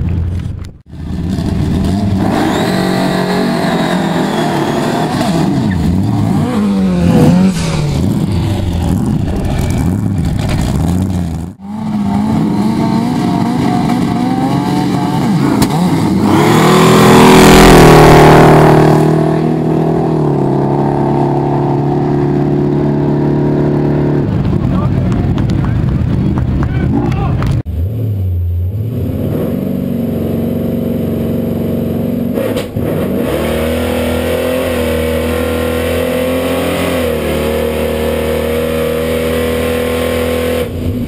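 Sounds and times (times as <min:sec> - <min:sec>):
drag car engines revving: 0:00.4 - 0:41.0
drag cars accelerating hard: 0:00.9 - 0:41.0.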